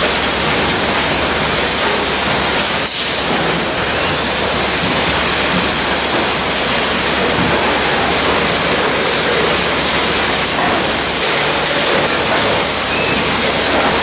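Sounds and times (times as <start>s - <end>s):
conveyor machinery running: 0.0s - 14.0s.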